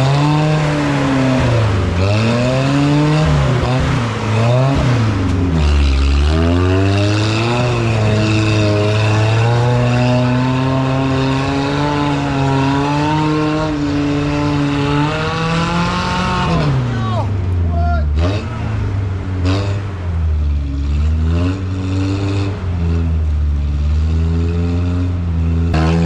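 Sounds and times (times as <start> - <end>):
engine revving hard: 0.0 - 17.2, 18.1 - 26.0.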